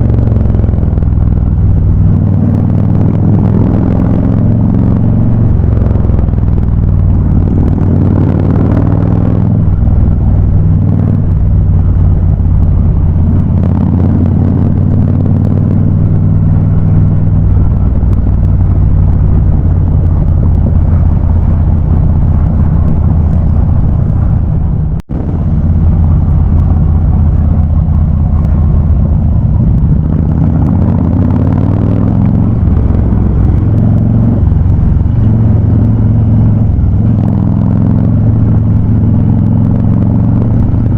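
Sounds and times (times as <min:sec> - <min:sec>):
motorcycle engine exhaust note: 0:00.0 - 0:40.9.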